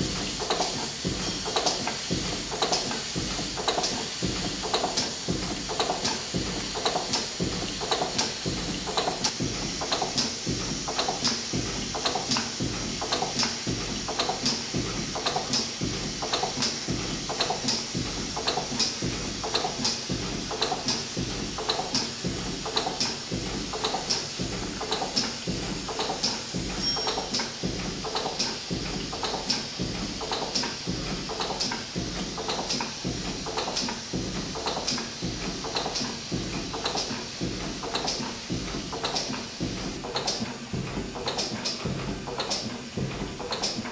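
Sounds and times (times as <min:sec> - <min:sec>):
steam engine knocking rhythmically: 0:00.0 - 0:43.9.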